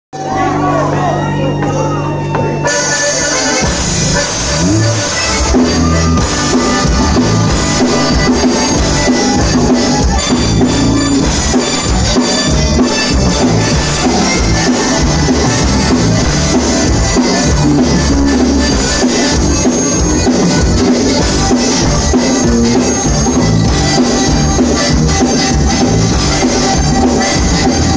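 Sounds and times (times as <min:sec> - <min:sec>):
electric bass: 0:00.2 - 0:27.9
button accordion melody: 0:00.4 - 0:27.9
drum kit beat: 0:02.4 - 0:27.9.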